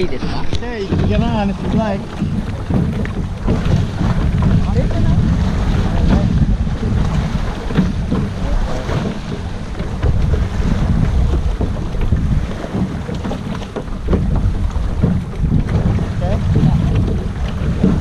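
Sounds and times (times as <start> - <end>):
water splashing against hull: 0.0 - 18.0
wind buffeting microphone: 0.0 - 18.0.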